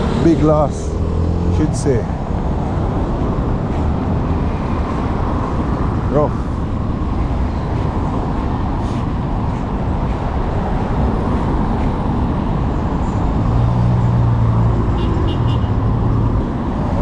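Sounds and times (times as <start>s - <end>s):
outdoor traffic noise: 0.0s - 17.0s
vehicle engine hum: 0.0s - 17.0s.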